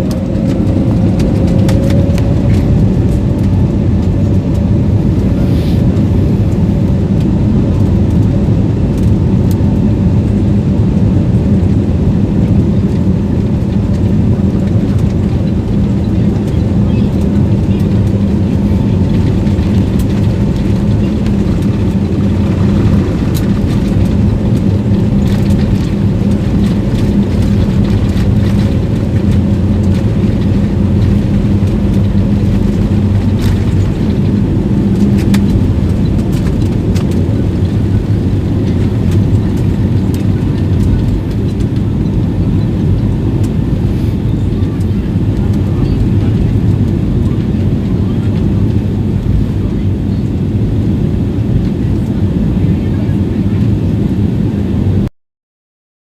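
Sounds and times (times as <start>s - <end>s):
jet engines at takeoff power: 0.0s - 55.1s.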